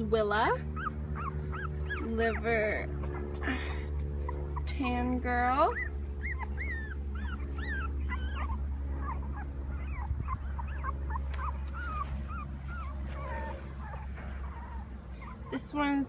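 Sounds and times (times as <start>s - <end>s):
puppies whimpering and squeaking: 0.4s - 16.0s.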